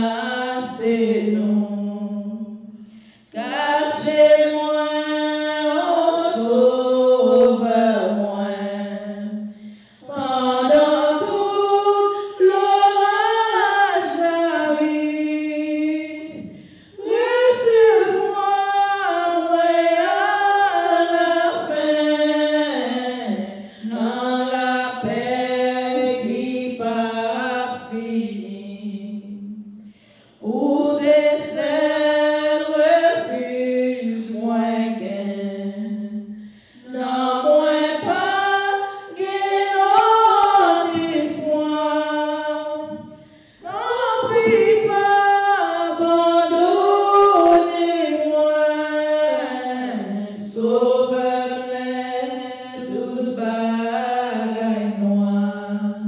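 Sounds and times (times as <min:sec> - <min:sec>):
woman singing a hymn: 0:00.0 - 0:56.0.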